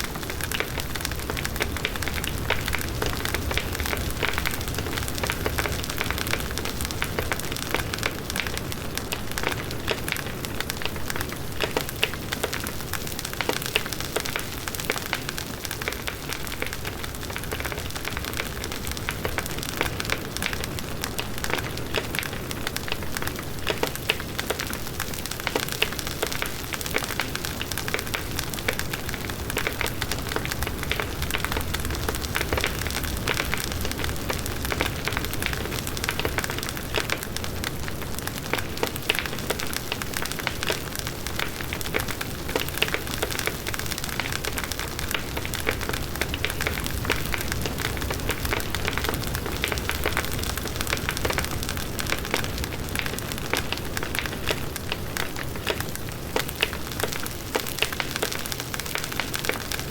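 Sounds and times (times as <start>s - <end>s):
burning wood crackling and popping: 0.0s - 59.9s.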